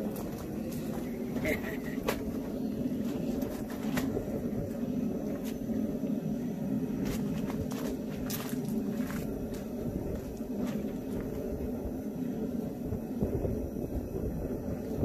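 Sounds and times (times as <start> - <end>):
gas forge roaring: 0.0 - 15.0.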